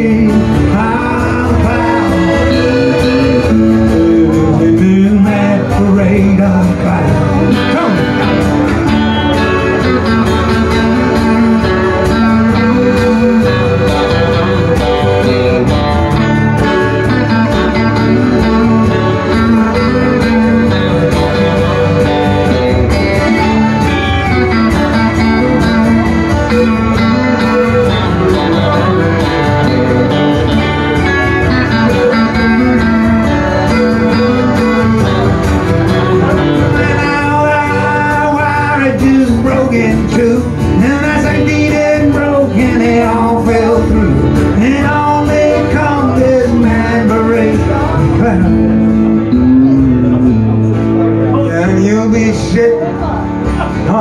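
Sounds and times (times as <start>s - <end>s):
band playing guitars and accordion: 0.0s - 54.0s
man singing: 0.0s - 54.0s.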